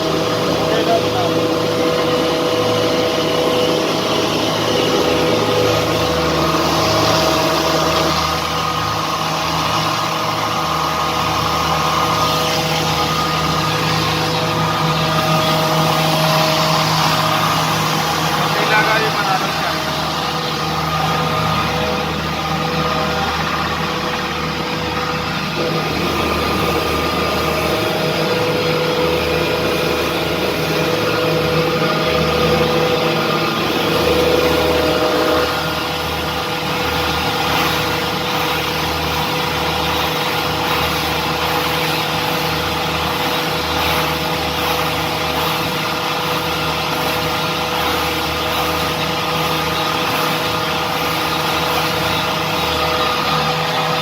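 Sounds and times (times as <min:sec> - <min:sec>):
grinding machine hum and whine: 0:00.0 - 0:54.0.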